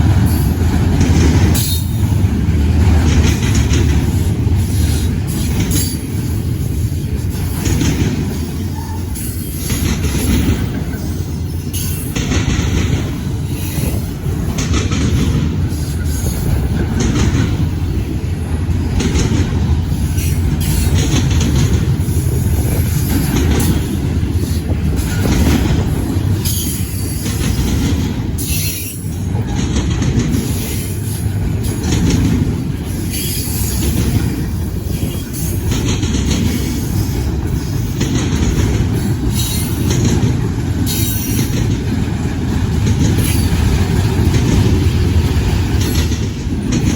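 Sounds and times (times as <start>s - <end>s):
freight train cars rolling past: 0.0s - 46.9s
steel wheels clicking over rail joints: 0.0s - 46.9s.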